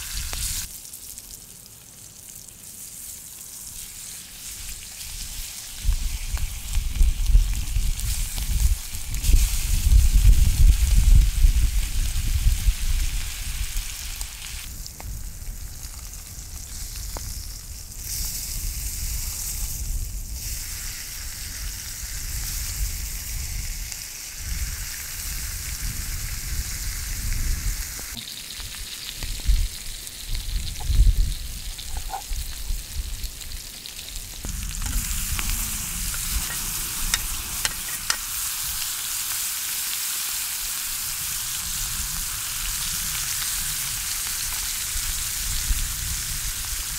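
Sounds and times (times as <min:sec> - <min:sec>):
meat sizzling in a pan: 0:00.0 - 0:46.9.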